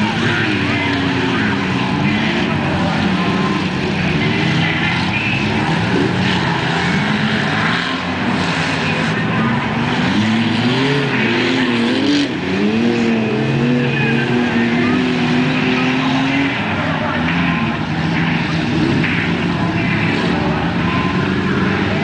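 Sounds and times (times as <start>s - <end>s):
car engines running: 0.0s - 22.0s
engine revving: 0.0s - 22.0s.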